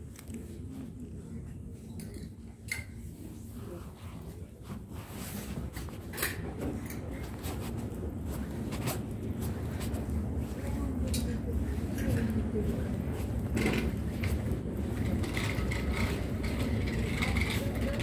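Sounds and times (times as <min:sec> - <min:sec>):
steady low hum: 0:00.0 - 0:18.0
garments on hangers rustling: 0:02.0 - 0:18.0.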